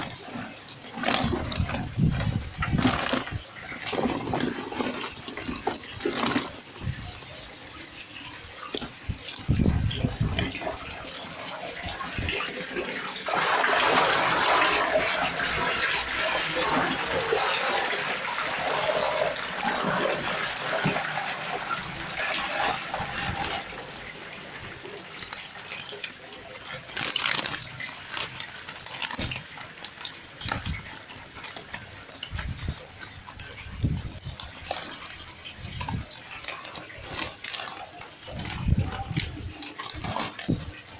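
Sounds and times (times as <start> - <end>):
fish flapping in a net: 0.0 - 40.9
water splashing and churning: 0.0 - 40.9.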